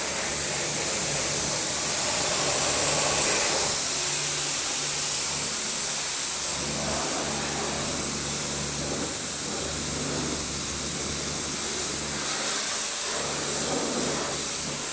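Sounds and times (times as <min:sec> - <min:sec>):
pressure washer spraying water: 0:00.0 - 0:14.9.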